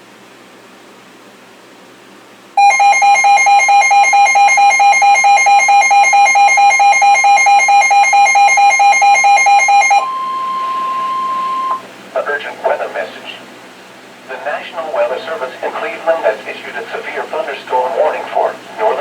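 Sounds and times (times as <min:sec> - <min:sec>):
weather radio alert beeping: 0:02.6 - 0:13.4, 0:14.3 - 0:19.0.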